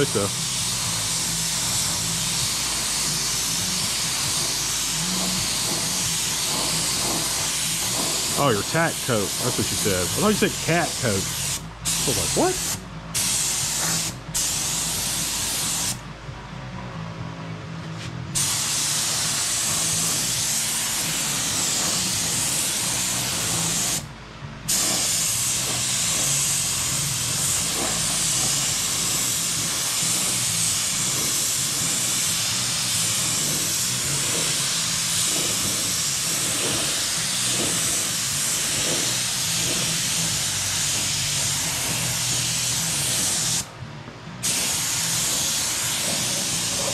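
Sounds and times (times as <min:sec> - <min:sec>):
spray gun hissing: 0:00.0 - 0:16.0, 0:18.4 - 0:24.1, 0:24.7 - 0:43.7, 0:44.4 - 0:46.9.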